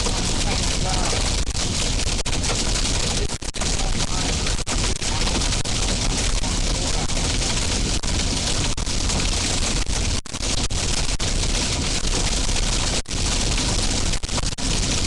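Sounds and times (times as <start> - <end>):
heavy rain pelting down: 0.0 - 15.0.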